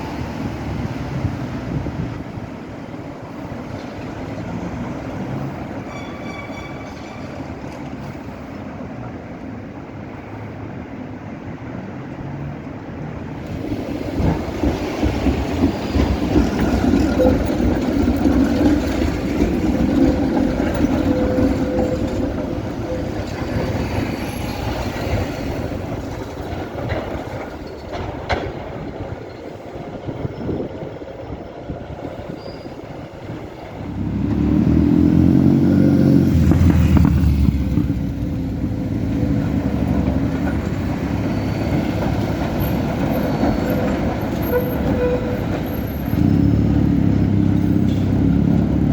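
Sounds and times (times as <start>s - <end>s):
tram rumbling on rails: 0.0s - 48.9s.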